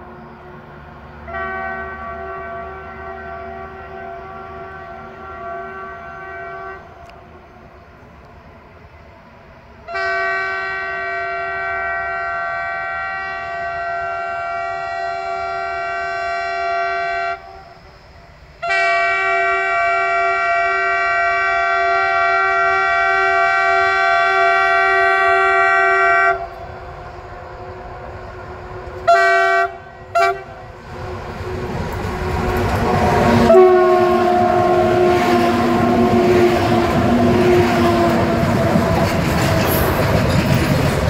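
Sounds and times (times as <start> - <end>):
electric locomotive horn blasts: 1.2 - 7.5, 9.8 - 17.9, 18.6 - 26.7, 28.8 - 40.0.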